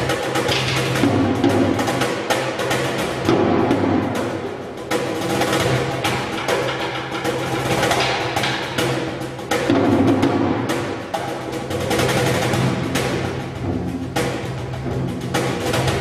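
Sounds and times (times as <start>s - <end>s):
hand drumming on box drum: 0.0s - 16.0s.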